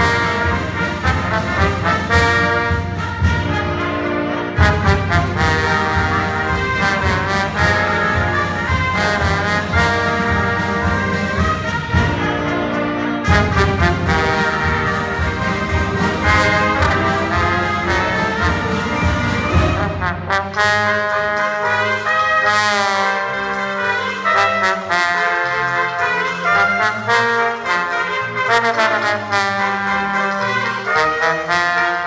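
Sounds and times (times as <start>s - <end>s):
dixieland jazz band playing: 0.0s - 32.0s.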